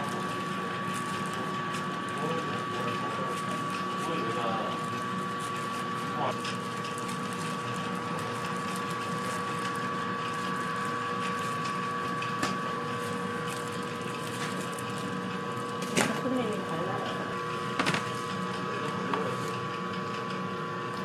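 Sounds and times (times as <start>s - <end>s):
mechanical hum of shop equipment: 0.0s - 21.0s.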